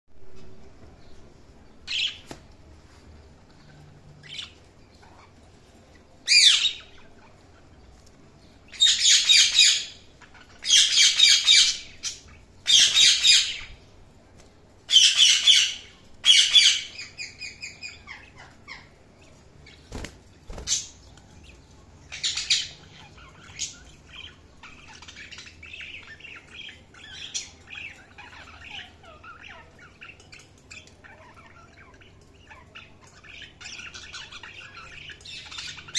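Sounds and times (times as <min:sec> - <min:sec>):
budgerigars chirping and warbling: 0:01.9 - 0:02.3, 0:04.2 - 0:13.9, 0:14.8 - 0:35.9.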